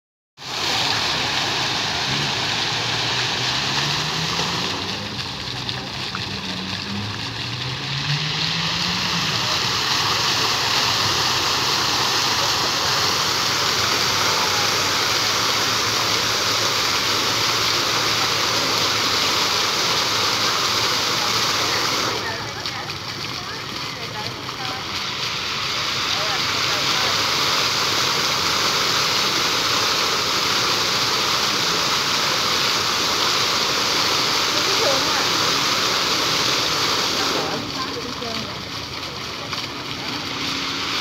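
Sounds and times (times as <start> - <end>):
fountain water rushing and splashing: 0.4 - 41.0.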